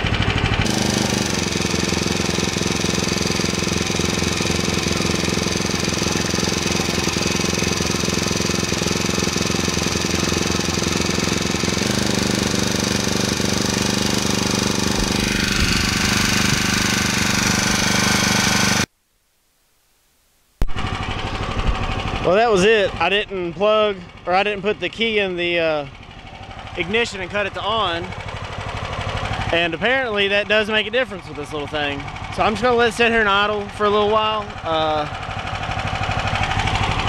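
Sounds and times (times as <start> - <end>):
single-cylinder engine running: 0.0 - 18.9, 20.7 - 37.0.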